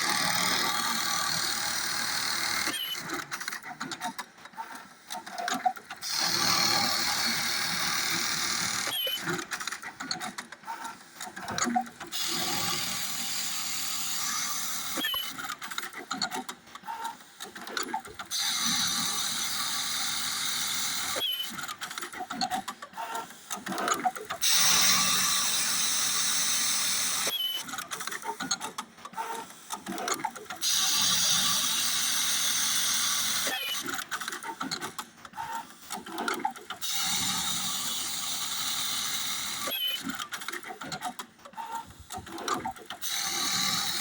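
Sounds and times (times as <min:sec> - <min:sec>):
sewing machine stitching: 0:00.0 - 0:04.2, 0:05.2 - 0:44.0.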